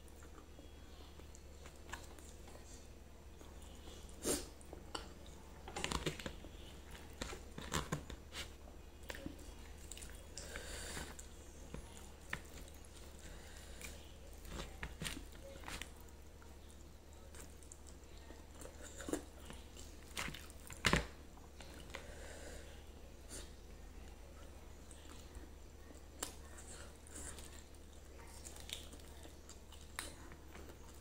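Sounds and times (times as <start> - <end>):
chewing with soft smacks: 0.0 - 31.0.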